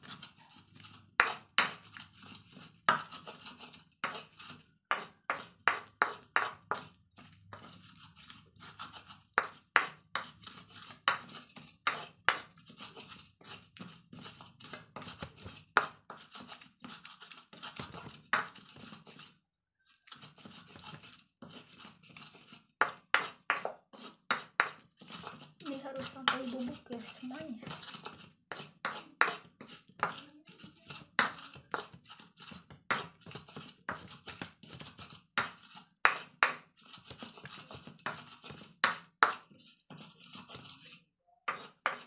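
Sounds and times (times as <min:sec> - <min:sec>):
pestle pounding in mortar: 0:00.0 - 0:19.1, 0:20.3 - 0:40.7, 0:41.5 - 0:42.0.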